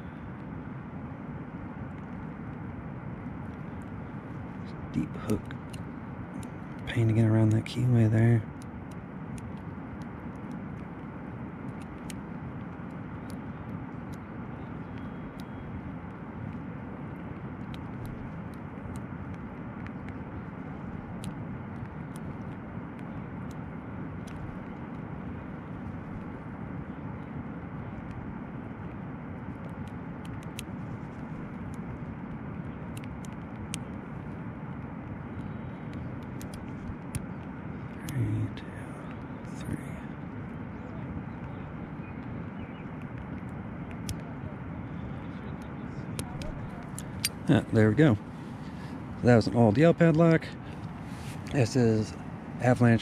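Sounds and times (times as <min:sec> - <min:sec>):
rushing outdoor background noise: 0:00.0 - 0:53.0.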